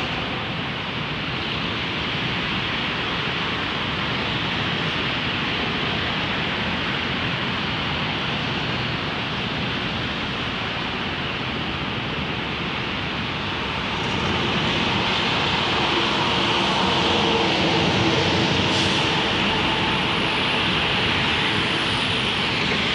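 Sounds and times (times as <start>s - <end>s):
distant city traffic: 0.0s - 22.9s.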